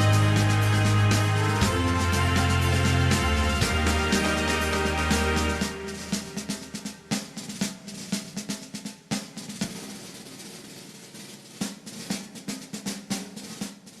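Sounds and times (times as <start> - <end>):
drum-led background music: 0.0 - 14.0.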